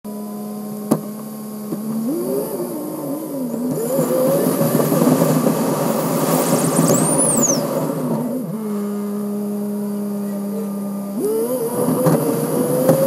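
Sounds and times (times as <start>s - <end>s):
car engine idling and accelerating: 0.1s - 13.0s
wind and road noise: 0.1s - 13.0s.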